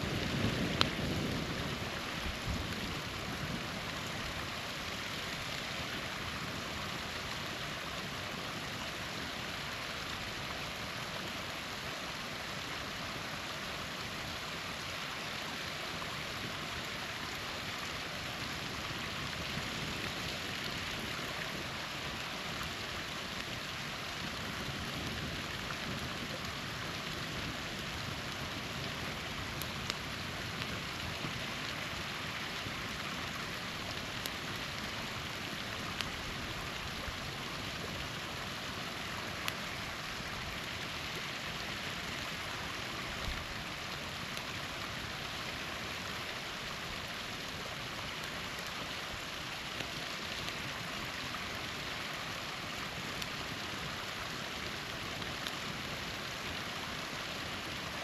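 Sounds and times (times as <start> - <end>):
campfire popping and crackling: 0.0 - 58.0
small waterfall splashing: 0.0 - 58.0.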